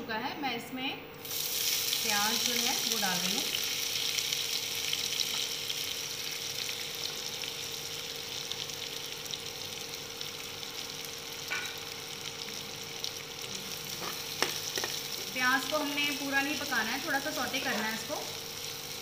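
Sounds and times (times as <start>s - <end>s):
onions sizzling in oil: 1.2s - 19.0s.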